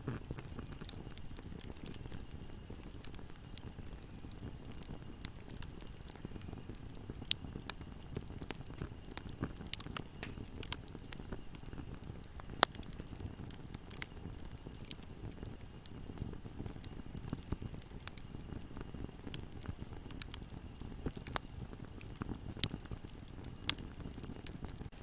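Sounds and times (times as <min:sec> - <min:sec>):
sharp snaps of fire: 0:00.0 - 0:25.0
wood fire crackling: 0:00.0 - 0:25.0.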